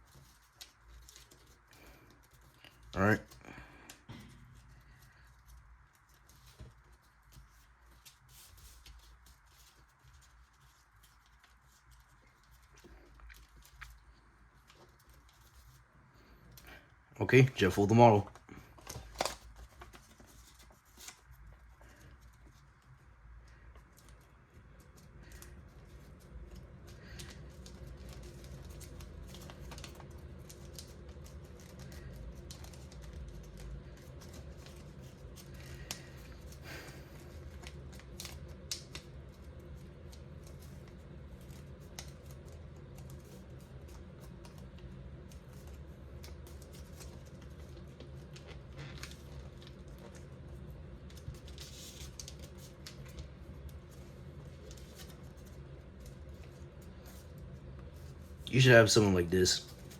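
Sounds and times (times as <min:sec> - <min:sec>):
faint low hum: 0:00.0 - 0:59.9
paper folding and crinkling: 0:00.0 - 0:59.9.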